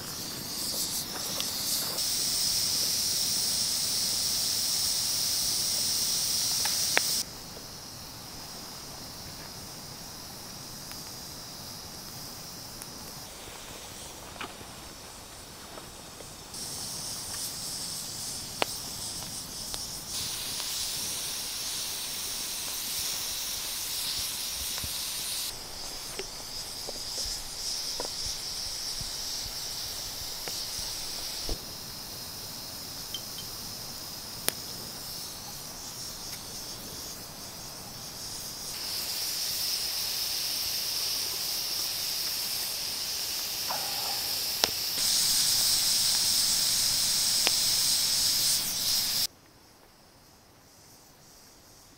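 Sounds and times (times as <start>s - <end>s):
steam hissing: 0.0s - 49.3s.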